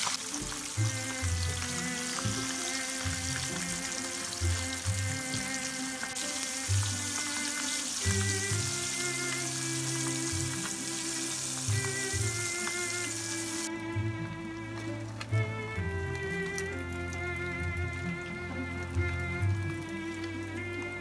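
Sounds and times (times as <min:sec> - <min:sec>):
fish sizzling in oil: 0:00.0 - 0:13.7, 0:14.7 - 0:21.0
background music: 0:00.0 - 0:21.0.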